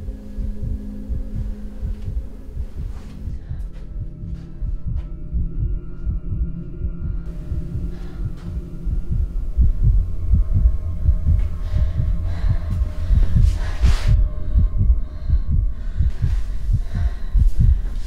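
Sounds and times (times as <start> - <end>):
rapid low thumps: 0.0 - 18.0
steady low hum: 0.0 - 18.0.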